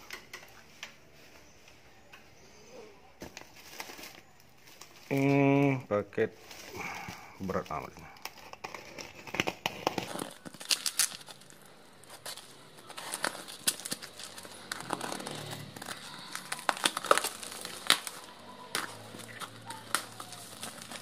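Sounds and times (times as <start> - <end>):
plastic mailer crinkling and tearing: 3.3 - 5.7, 6.4 - 21.0.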